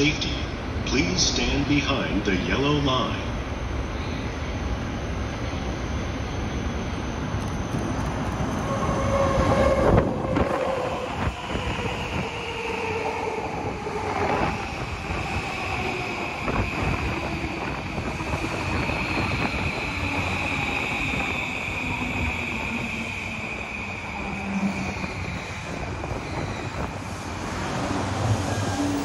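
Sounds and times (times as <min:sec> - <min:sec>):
train wheel and rail noise: 0:00.0 - 0:29.0.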